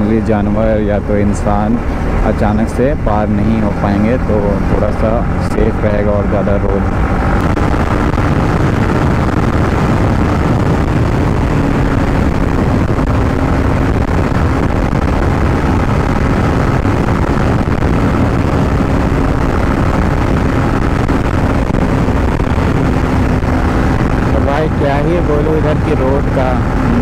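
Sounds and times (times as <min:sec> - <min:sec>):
motorcycle engine running: 0:00.0 - 0:27.0
wind on microphone: 0:00.0 - 0:27.0.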